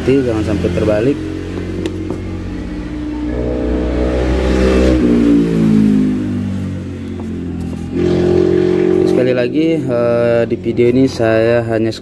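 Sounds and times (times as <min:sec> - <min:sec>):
vehicle engine revving past: 0:00.0 - 0:10.3
steady engine hum: 0:00.0 - 0:12.0.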